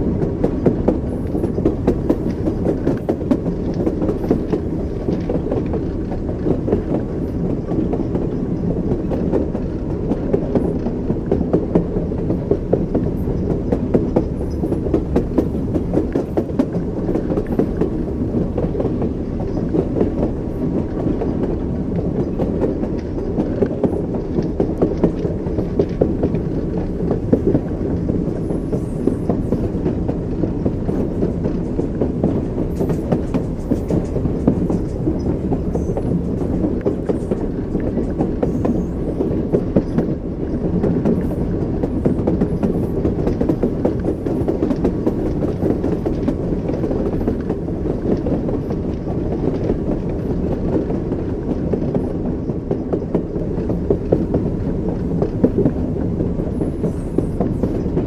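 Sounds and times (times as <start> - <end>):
train rumble: 0.0 - 58.0
train wheels knocking on rails: 0.0 - 58.0.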